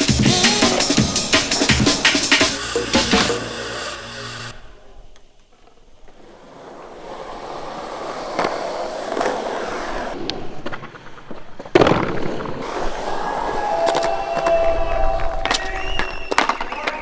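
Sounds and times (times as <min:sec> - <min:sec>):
skateboard wheels rolling on concrete: 0:00.0 - 0:17.0.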